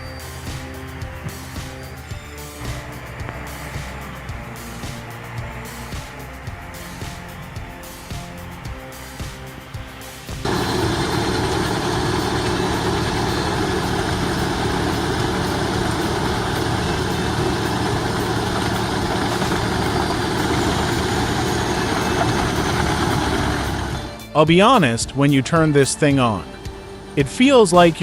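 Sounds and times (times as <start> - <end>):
heavy machine engine running: 0.0 - 24.3.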